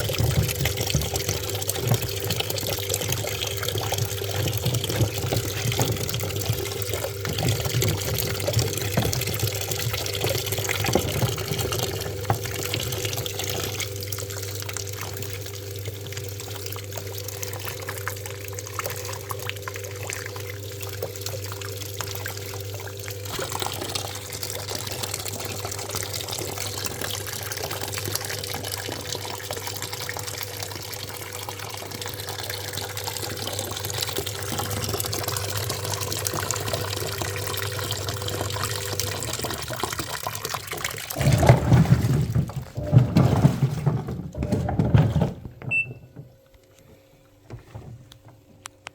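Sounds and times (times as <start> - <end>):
water running into washing machine: 0.0 - 48.9.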